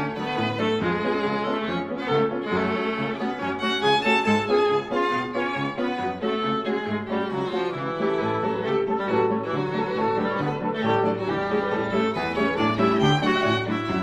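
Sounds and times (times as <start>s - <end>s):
cello: 0.0s - 14.0s
violin melody: 0.0s - 14.0s.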